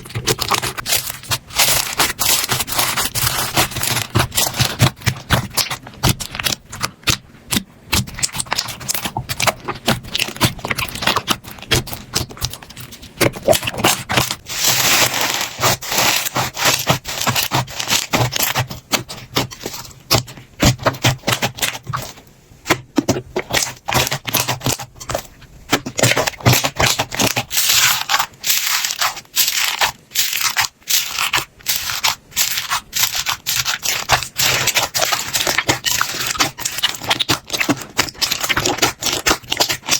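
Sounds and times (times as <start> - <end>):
slime crackling and popping: 0.0 - 39.9
slime scraping and squishing: 0.0 - 39.9.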